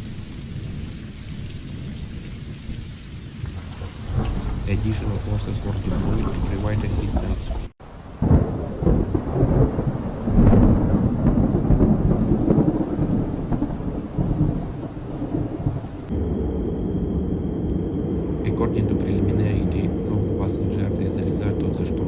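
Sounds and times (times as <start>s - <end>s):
rain: 0.0s - 16.2s, 17.1s - 22.0s
thunder rumbling: 0.0s - 22.0s
thunder cracks: 3.3s - 22.0s.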